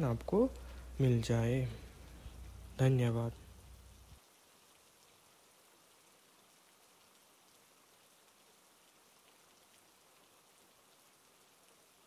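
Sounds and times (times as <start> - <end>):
faint steady rain: 0.0 - 12.0.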